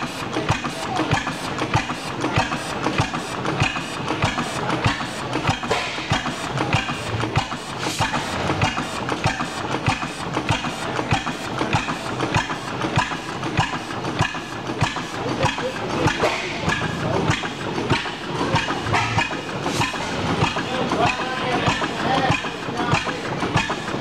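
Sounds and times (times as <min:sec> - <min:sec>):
stationary engines clattering: 0:00.0 - 0:24.0.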